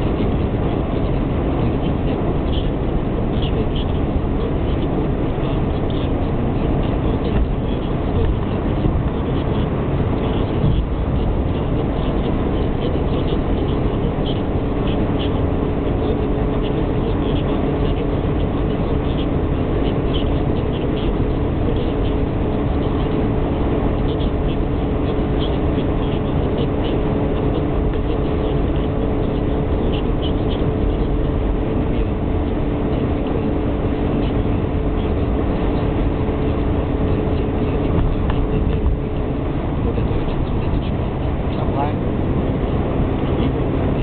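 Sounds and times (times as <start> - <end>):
car engine and tyre drone: 0.0 - 44.0.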